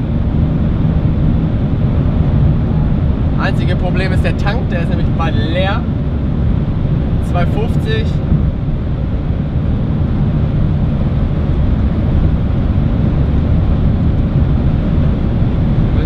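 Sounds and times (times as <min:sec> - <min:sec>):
car interior engine and road drone: 0:00.0 - 0:16.0.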